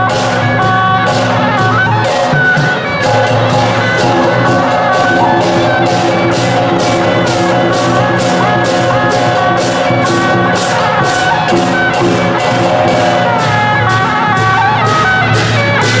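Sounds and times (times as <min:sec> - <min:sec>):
procession band music: 0:00.0 - 0:16.0.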